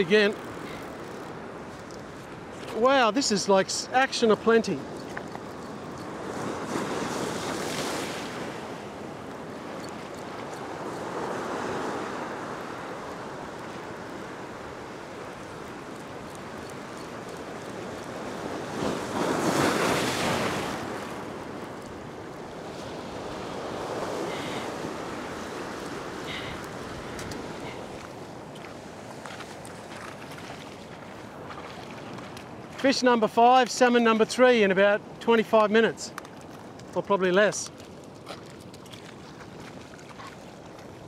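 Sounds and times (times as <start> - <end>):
ocean surf breaking on rocks: 0.0 - 37.7.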